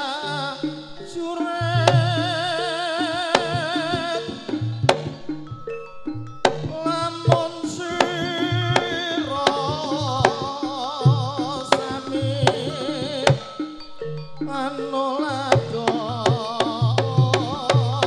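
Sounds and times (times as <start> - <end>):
wavering melody with vibrato: 0.0 - 18.0
hand drums striking: 0.3 - 18.0.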